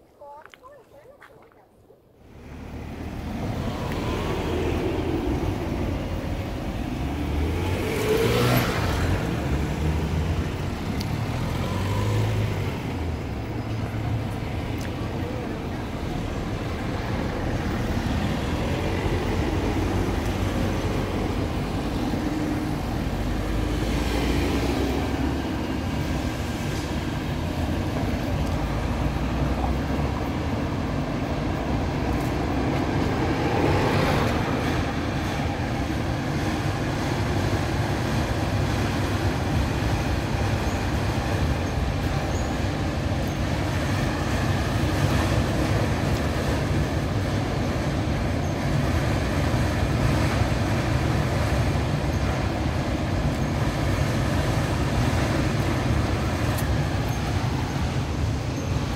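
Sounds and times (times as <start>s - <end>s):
train wheels rumbling on track: 2.3s - 58.9s.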